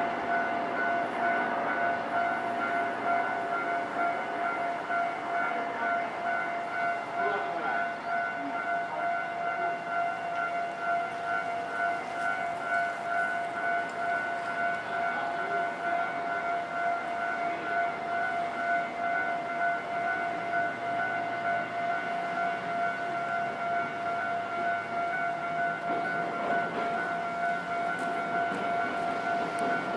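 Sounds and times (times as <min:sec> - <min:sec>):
level crossing warning bell: 0:00.0 - 0:29.9.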